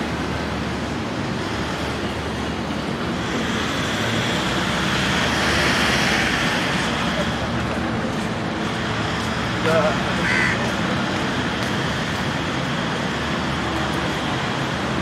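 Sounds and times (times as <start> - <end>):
traffic passing: 0.0 - 15.0
vehicle passing by: 1.5 - 15.0.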